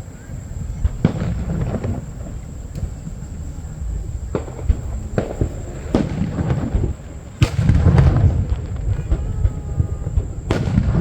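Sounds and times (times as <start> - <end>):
fireworks booming: 0.0 - 11.0
fireworks sharp bangs: 0.0 - 11.0.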